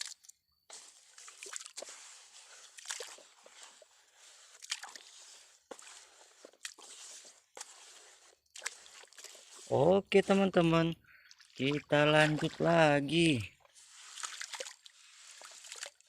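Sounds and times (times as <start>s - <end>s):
wet sand squishing and scraping: 0.0s - 16.0s.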